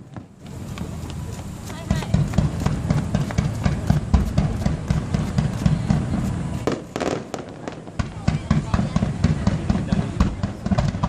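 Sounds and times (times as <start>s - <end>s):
fireworks booms and cracks: 0.0s - 11.0s.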